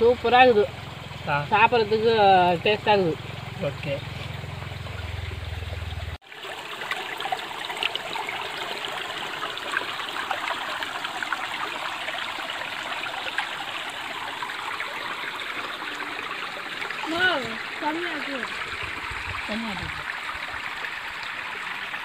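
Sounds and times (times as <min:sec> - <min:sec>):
stream trickling over stones: 0:00.0 - 0:22.0.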